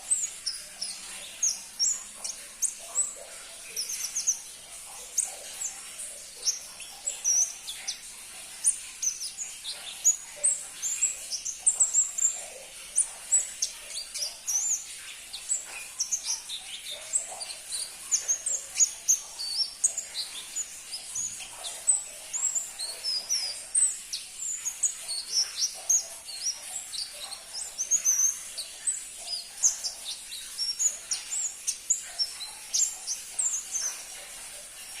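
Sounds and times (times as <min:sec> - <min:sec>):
small bird chirping: 0:00.0 - 0:35.0.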